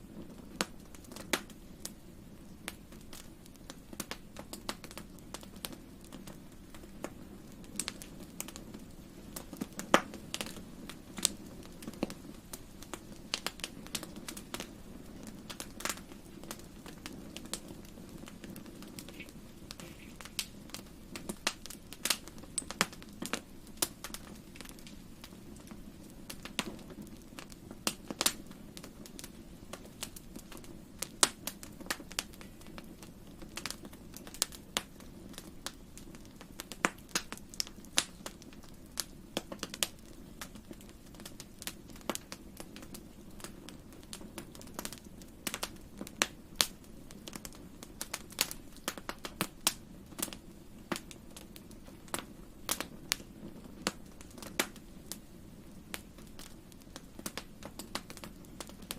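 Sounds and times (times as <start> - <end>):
fire low rumble: 0.0 - 58.9
fire pops and snaps: 0.1 - 58.9.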